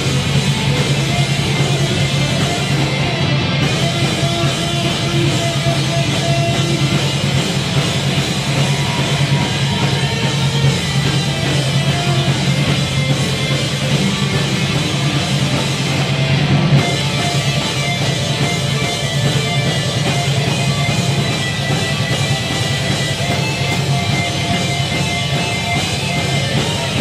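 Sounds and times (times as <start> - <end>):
heavy metal band playing: 0.0 - 27.0.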